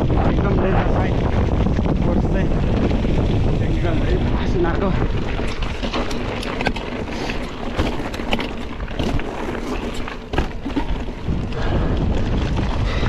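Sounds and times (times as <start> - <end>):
bike rattling clicks and knocks: 0.0 - 13.0
bike tyres crunching on gravel: 0.0 - 13.0
wind rumble on microphone: 0.0 - 13.0.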